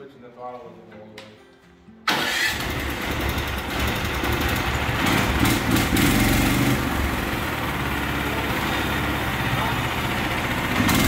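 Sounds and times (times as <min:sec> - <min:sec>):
sawmill gasoline engine running: 0:02.1 - 0:11.0.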